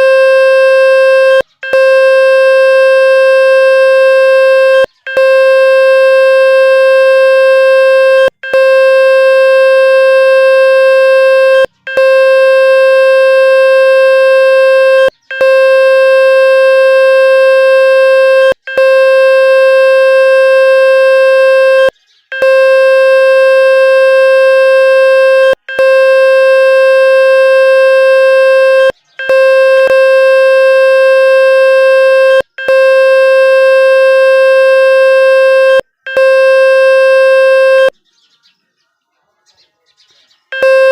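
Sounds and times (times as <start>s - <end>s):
loud buzzing electronic tone: 0.0s - 38.0s, 40.6s - 40.9s.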